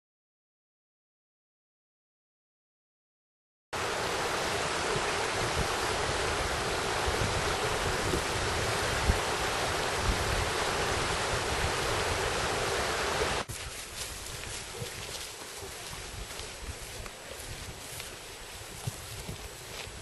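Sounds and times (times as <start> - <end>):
stream water rushing: 3.8 - 20.0.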